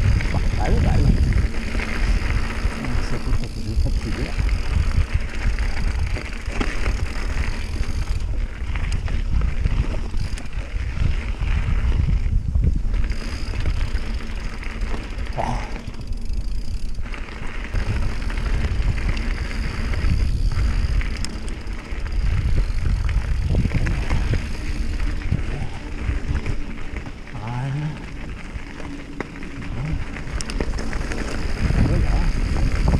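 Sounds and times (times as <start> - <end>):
bike rattling over bumps: 0.0 - 32.9
bike tyres crunching on gravel: 0.0 - 32.9
wind rumble on microphone: 0.0 - 32.9.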